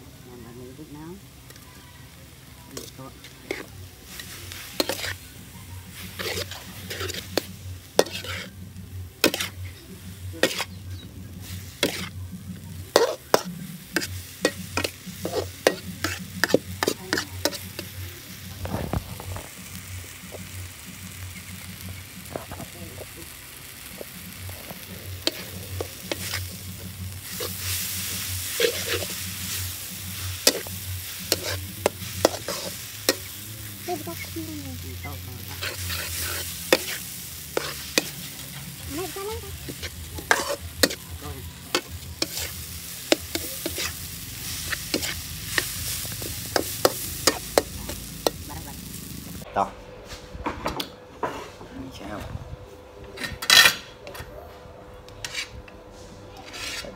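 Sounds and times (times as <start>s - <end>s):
food sizzling: 0.0s - 49.5s.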